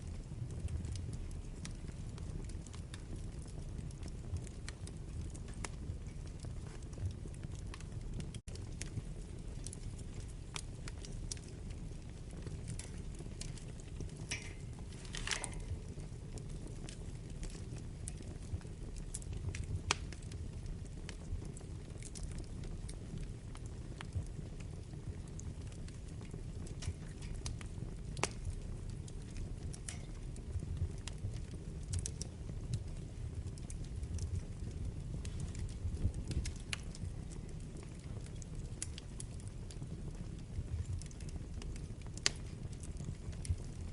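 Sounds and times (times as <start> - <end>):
flames rumbling: 0.0 - 43.9
wood fire burning: 0.0 - 43.9.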